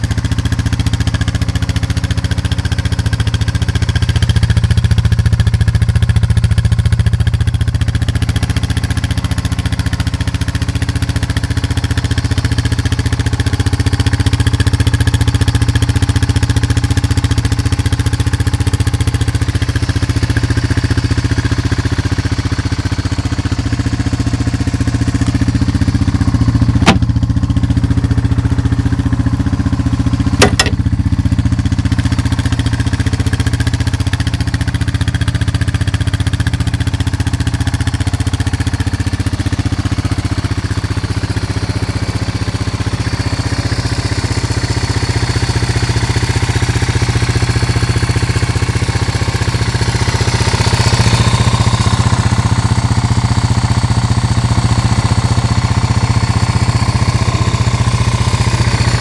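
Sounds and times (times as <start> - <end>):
quad engine idling: 0.0 - 59.0.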